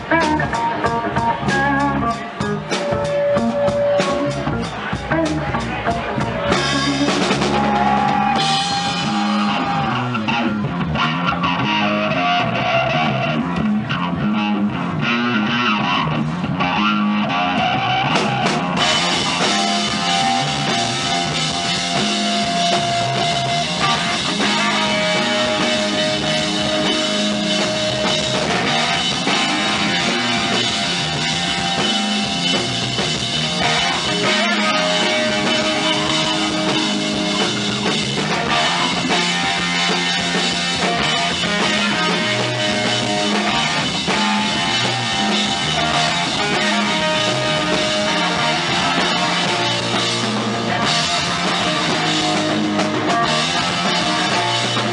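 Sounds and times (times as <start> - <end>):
drum kit with cymbals: 0.0 - 11.4, 18.0 - 54.9
bass guitar: 0.0 - 54.9
electric guitar: 0.0 - 54.9.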